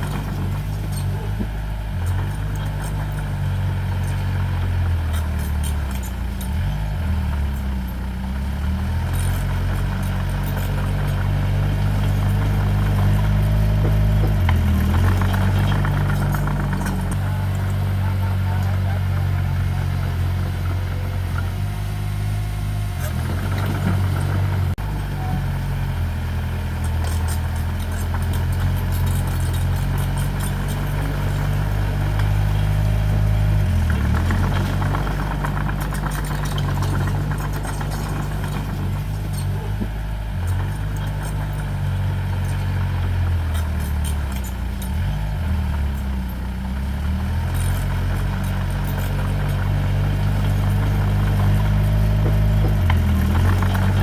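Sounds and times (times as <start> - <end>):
heavy machine diesel engine: 0.0 - 54.0.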